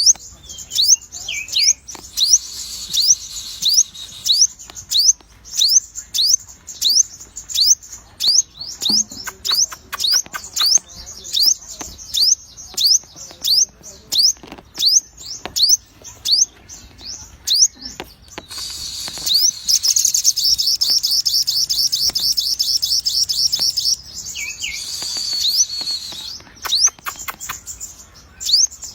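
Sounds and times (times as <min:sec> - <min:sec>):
songbird whistling: 0:00.0 - 0:15.0, 0:18.4 - 0:28.9.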